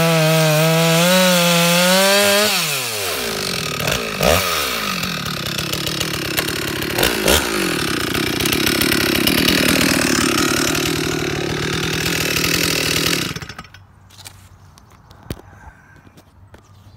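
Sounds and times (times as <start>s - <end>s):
chainsaw revving: 0.0s - 13.8s.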